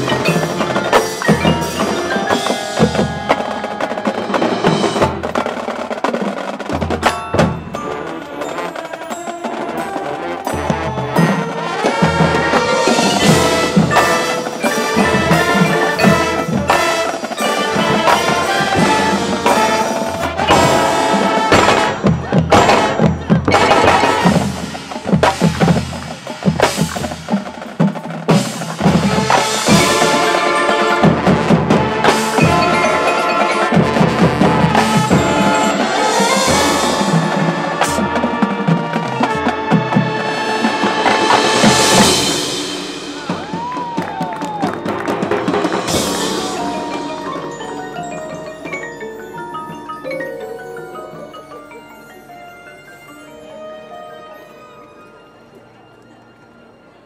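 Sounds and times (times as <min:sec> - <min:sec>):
drums: 0:00.0 - 0:53.2
mallet keyboards: 0:00.0 - 0:57.0
marching band playing: 0:00.0 - 0:57.0.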